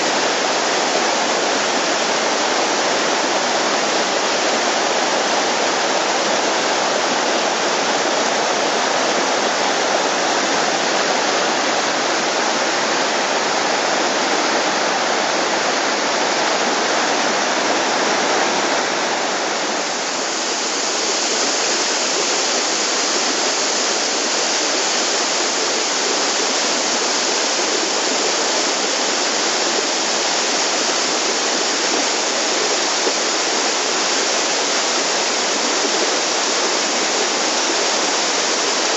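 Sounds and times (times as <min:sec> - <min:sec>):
creek rushing over rocks: 0:00.0 - 0:38.9
waterfall pouring: 0:00.0 - 0:38.9.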